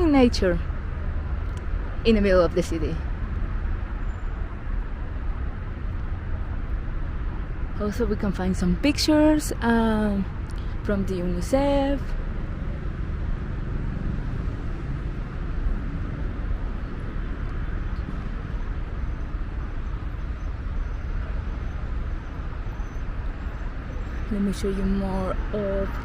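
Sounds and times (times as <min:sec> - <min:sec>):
fast-moving motorway traffic: 0:00.0 - 0:26.0.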